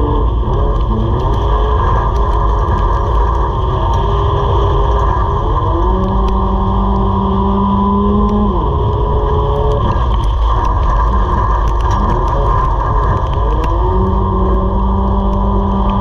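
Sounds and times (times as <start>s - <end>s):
race car engine: 0.0s - 16.0s
road and wind rumble: 0.0s - 16.0s.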